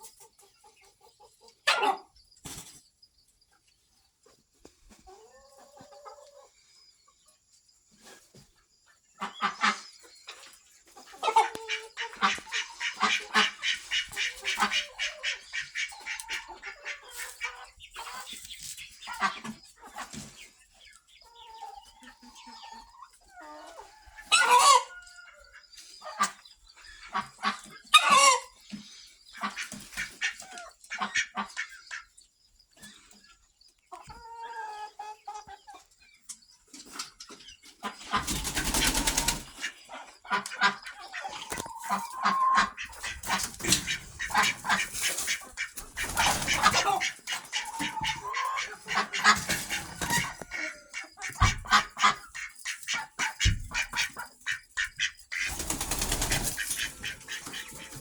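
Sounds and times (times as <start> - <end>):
chickens clucking and squawking: 0.0 - 58.0.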